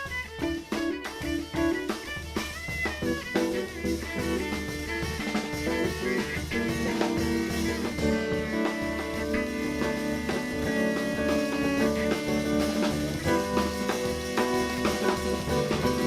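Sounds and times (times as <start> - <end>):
cello: 0.0 - 16.0
drum kit with rimshots: 0.0 - 16.0
guitar: 0.0 - 16.0.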